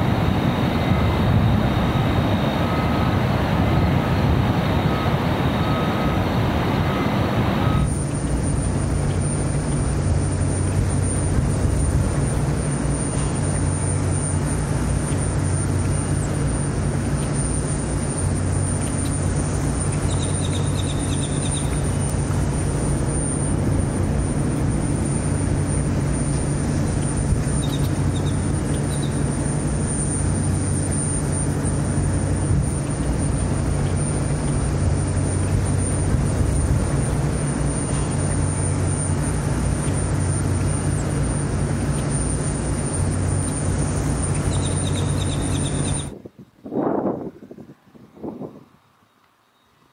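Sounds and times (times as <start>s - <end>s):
machinery drone: 0.0s - 49.0s
faint high whine: 0.0s - 49.9s.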